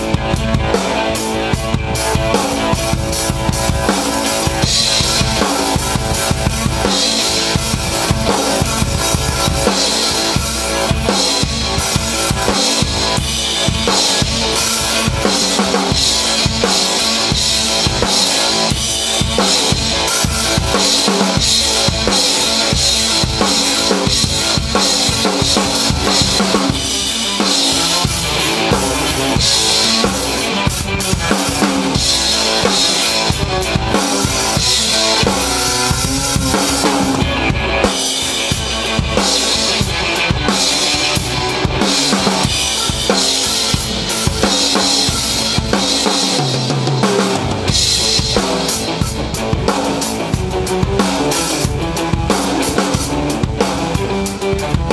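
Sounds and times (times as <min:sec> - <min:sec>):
drum kit beat: 0:00.0 - 0:54.9
electric guitar: 0:00.0 - 0:54.9.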